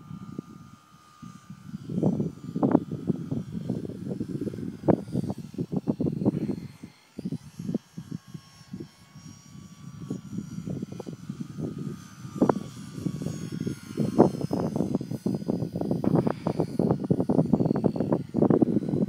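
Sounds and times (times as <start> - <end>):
model plane motor whine: 0.0 - 19.0
wind buffeting microphone: 0.0 - 19.0.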